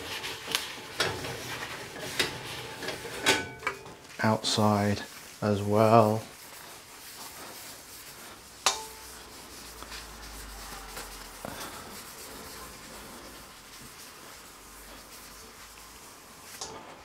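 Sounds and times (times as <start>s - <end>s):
paper wiping metal wok: 0.0s - 17.0s.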